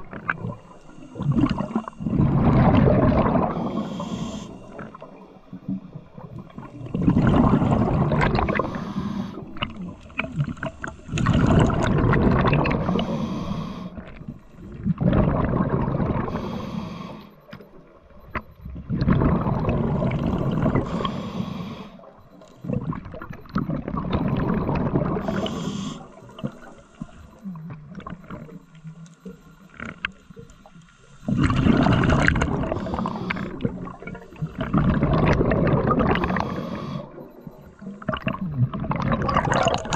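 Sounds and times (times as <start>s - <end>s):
regulator bubbles exhale: 0.0s - 17.5s, 18.7s - 39.9s.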